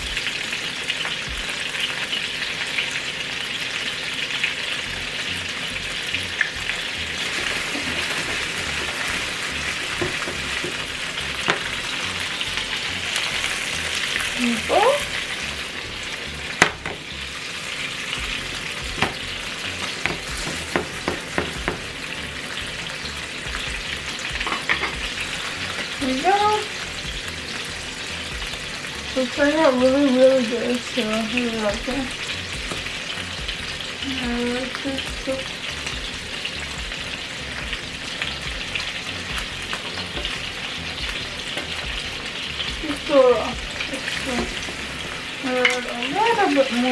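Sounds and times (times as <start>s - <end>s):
meatballs sizzling in oil: 0.0s - 46.9s.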